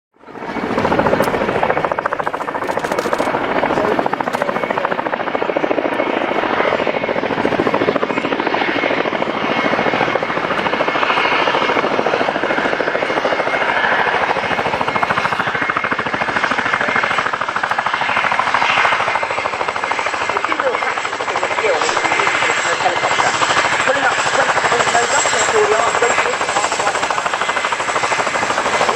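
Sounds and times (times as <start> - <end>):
helicopter rotors chopping: 0.2 - 28.9.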